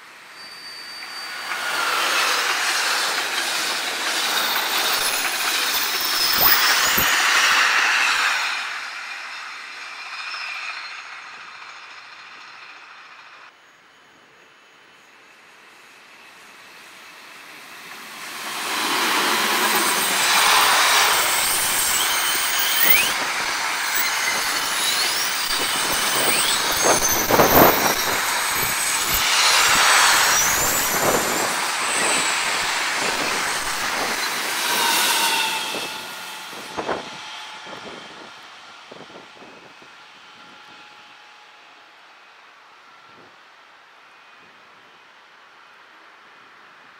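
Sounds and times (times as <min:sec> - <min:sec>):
train wheels rushing on rails: 0:00.0 - 0:13.6, 0:14.2 - 0:46.9
high wavering wheel squeal: 0:00.2 - 0:41.8.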